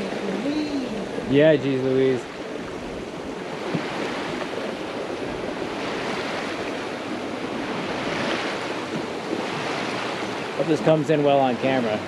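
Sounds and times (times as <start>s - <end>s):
wind on microphone: 0.0s - 10.9s
water rushing past hull: 0.0s - 12.0s.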